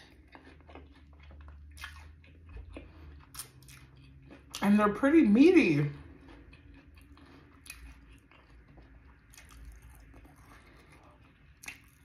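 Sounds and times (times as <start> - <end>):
chewing and biting chicken wing: 0.0 - 4.8, 5.4 - 12.0.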